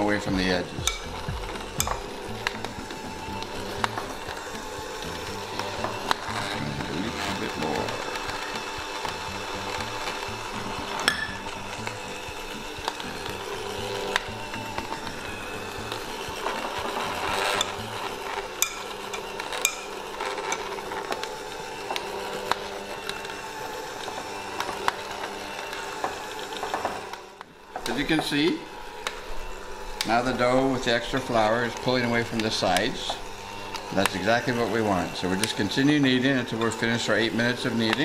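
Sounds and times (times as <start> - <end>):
electric hand mixer running: 0.0 - 38.0.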